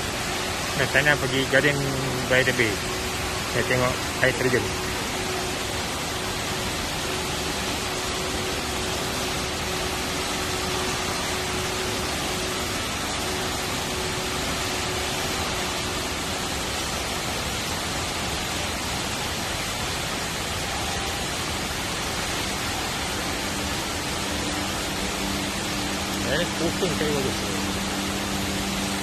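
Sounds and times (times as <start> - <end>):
indoor waterfall rushing: 0.0 - 29.0.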